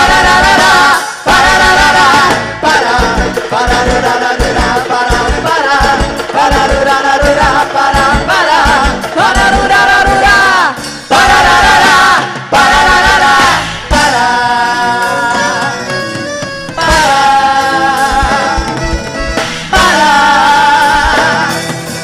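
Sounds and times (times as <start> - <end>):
folk dance music with steady beat: 0.0 - 22.0.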